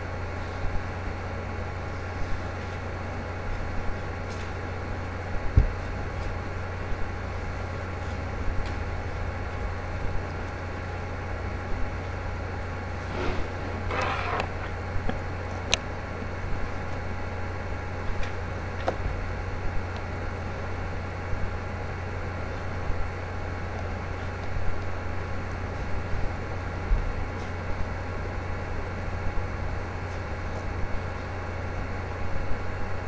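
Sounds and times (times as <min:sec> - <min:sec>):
low hum with hiss: 0:00.0 - 0:33.0.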